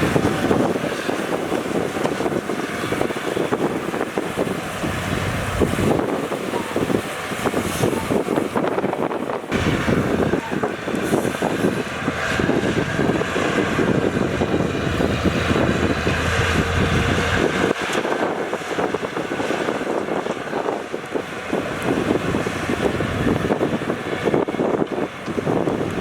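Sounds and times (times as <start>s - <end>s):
heavy diesel engines running: 0.0s - 26.0s
wind on microphone: 0.0s - 26.0s.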